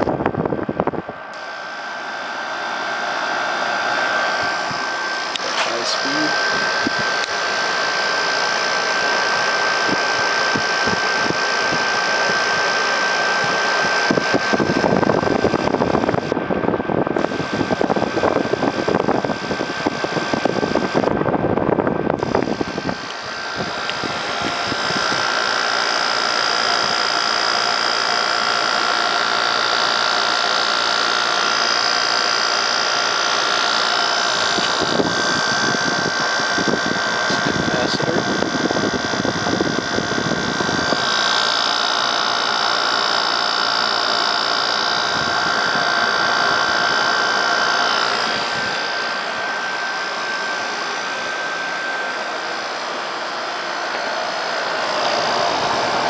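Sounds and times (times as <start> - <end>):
air conditioner fan whirring: 0.0 - 56.0
compressor running: 0.0 - 56.0.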